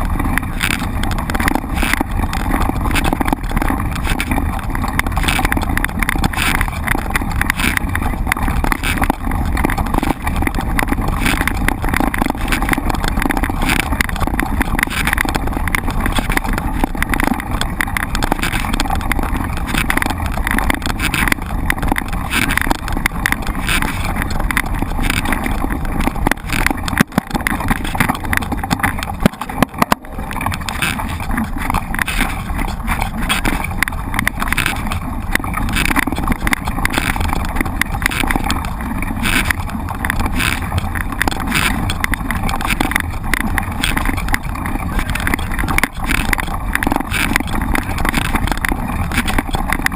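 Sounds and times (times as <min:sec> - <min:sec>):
bike rattling and knocking: 0:00.0 - 0:49.9
wind rumbling on microphone: 0:00.0 - 0:49.9.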